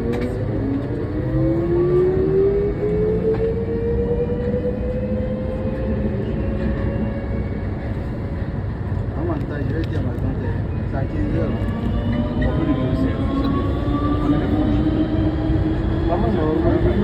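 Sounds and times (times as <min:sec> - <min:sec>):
train running gear rumble: 0:00.0 - 0:17.0.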